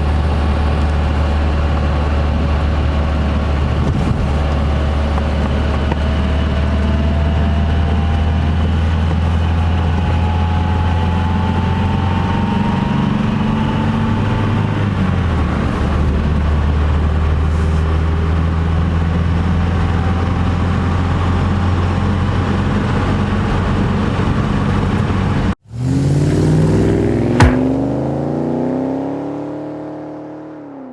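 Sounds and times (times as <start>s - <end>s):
car engine running: 0.0s - 28.5s.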